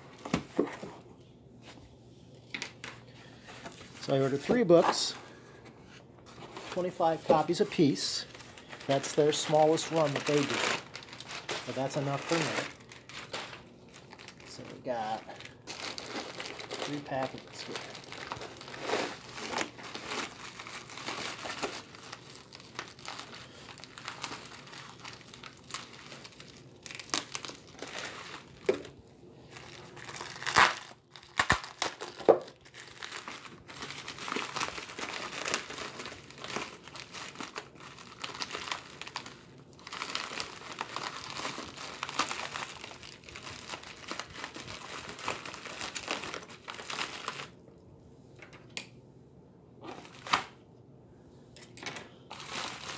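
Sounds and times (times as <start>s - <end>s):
packing paper crinkling: 6.3s - 47.6s, 49.9s - 50.6s, 52.3s - 52.9s.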